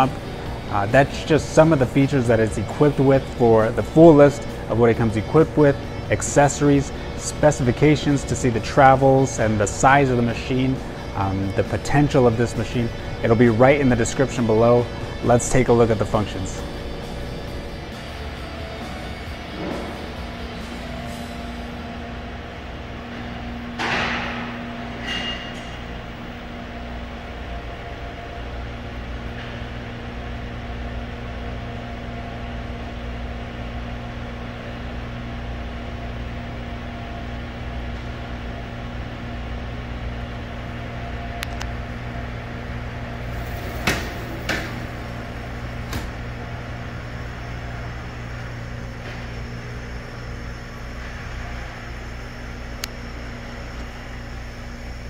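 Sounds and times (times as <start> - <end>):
machine humming: 0.0 - 55.0.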